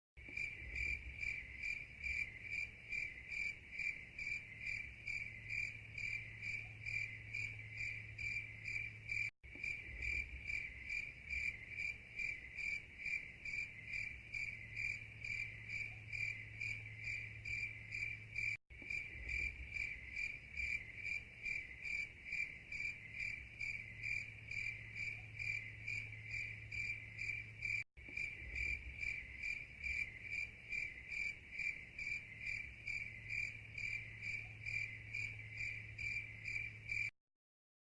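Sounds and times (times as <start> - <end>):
crickets chirping: 0.2 - 37.1.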